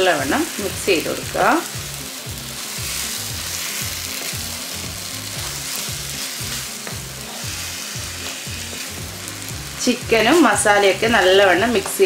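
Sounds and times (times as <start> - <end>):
background music: 0.0 - 12.0
chicken sizzling in a pan: 0.0 - 12.0.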